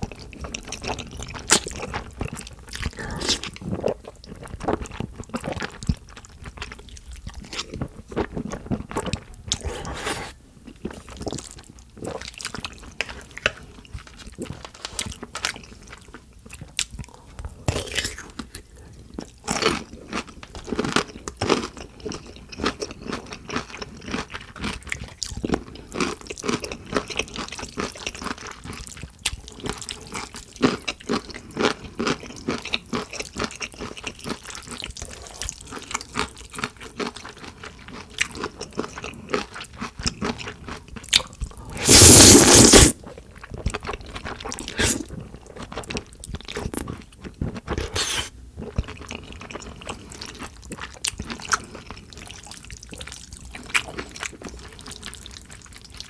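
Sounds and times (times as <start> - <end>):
wet chewing of noodles: 0.0 - 56.0.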